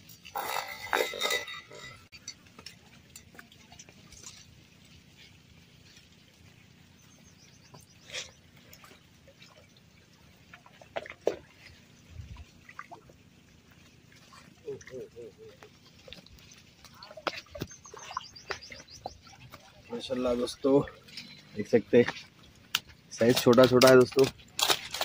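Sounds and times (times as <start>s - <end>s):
water lapping against rocks: 0.0s - 25.0s.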